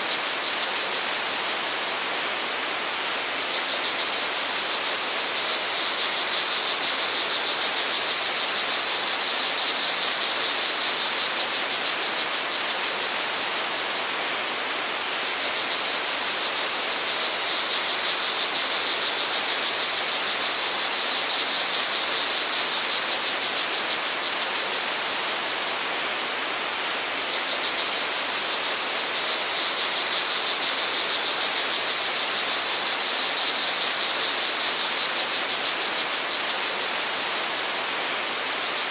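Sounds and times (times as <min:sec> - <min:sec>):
crickets trilling: 0:00.0 - 0:02.4, 0:03.0 - 0:14.2, 0:14.9 - 0:26.2, 0:26.8 - 0:38.9.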